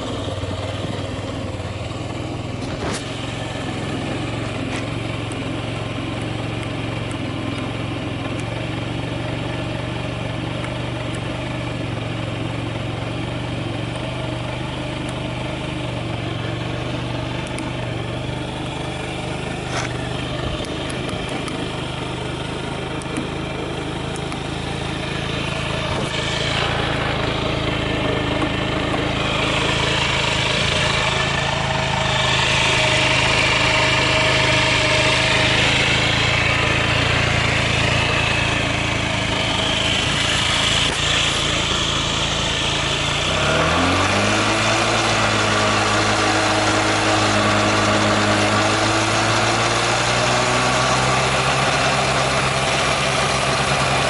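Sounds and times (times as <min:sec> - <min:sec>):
scooter engine idling: 0:00.0 - 0:54.0.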